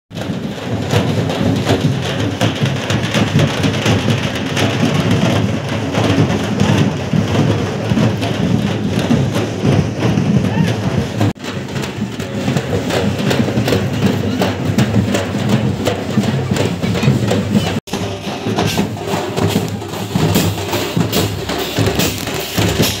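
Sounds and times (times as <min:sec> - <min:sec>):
sharp percussive beats: 0:00.1 - 0:23.0
crowd din: 0:03.0 - 0:23.0.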